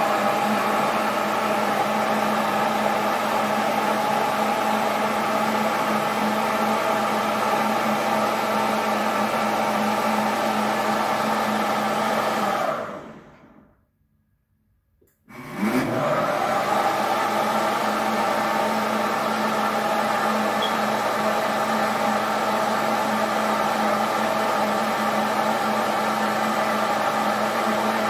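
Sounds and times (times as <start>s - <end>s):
electric blender running: 0.0s - 13.7s, 15.3s - 28.0s.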